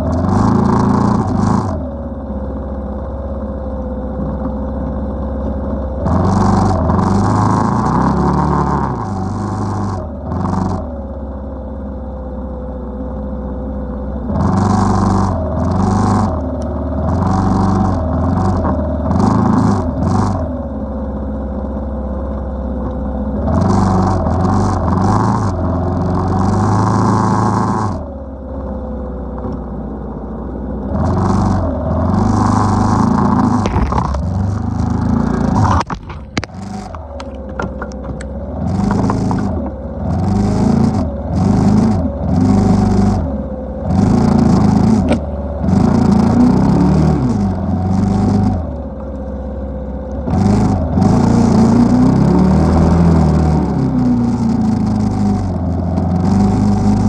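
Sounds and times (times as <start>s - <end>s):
atv engine revving: 0.0s - 2.2s, 3.8s - 11.1s, 14.2s - 20.8s, 22.8s - 28.2s, 30.8s - 57.0s.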